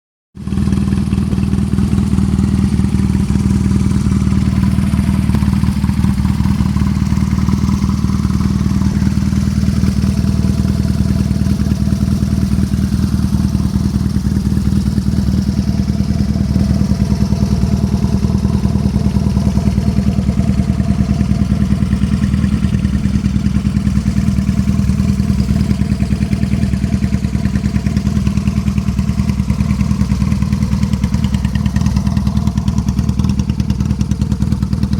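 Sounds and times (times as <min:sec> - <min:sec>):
motorcycle engine running: 0:00.4 - 0:34.9.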